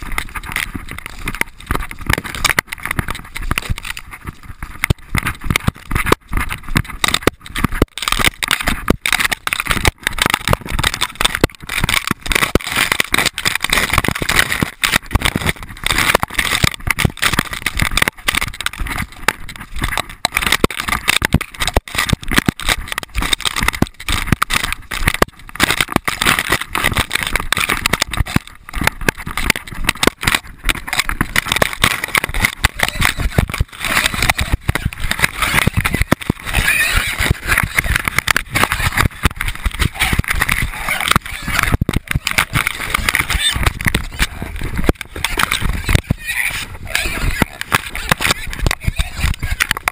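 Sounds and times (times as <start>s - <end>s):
branches scraping against camera: 0.0s - 49.9s
camera knocking and rattling: 0.0s - 49.9s.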